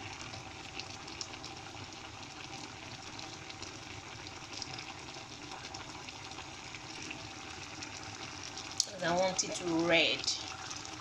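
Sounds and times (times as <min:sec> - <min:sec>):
pot simmering with bubbling: 0:00.0 - 0:11.0.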